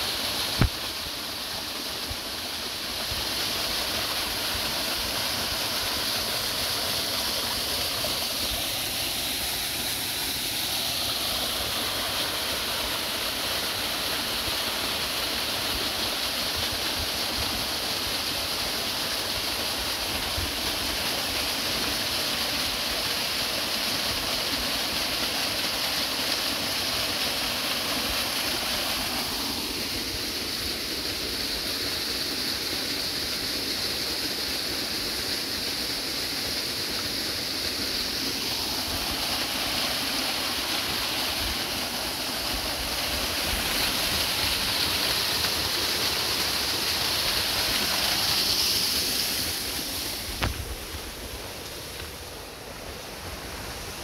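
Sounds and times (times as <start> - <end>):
waterfall rushing: 0.0 - 33.9, 34.9 - 54.0.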